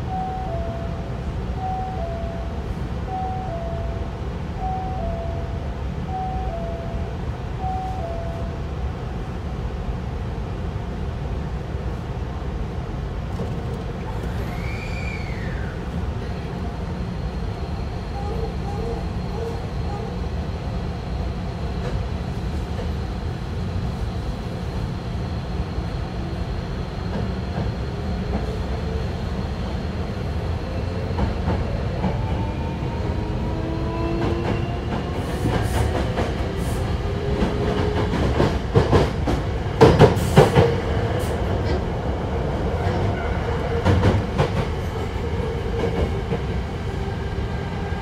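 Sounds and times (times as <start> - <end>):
electric train hum: 0.0 - 48.0.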